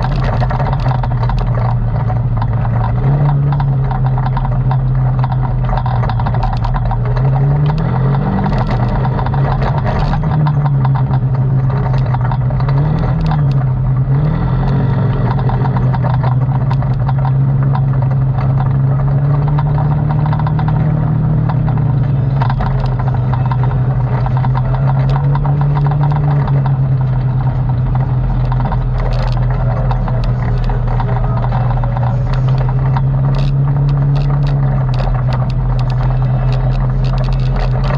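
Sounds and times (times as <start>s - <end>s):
atv engine running: 0.0s - 37.9s.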